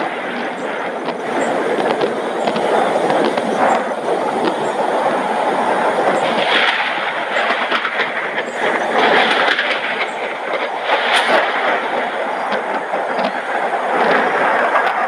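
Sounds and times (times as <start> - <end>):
heavy rain falling: 0.0 - 15.0
raindrops ticking on surfaces: 0.0 - 15.0.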